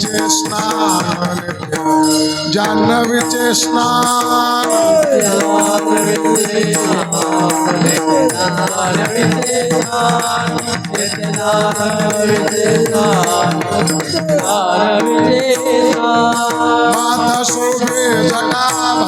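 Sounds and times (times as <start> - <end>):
drum and jingling percussion: 0.0 - 19.0
person singing: 0.0 - 19.0.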